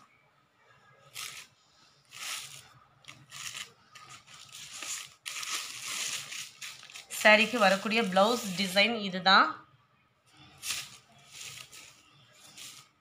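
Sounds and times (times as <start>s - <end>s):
fabric rustling: 1.0s - 9.0s, 10.3s - 13.0s.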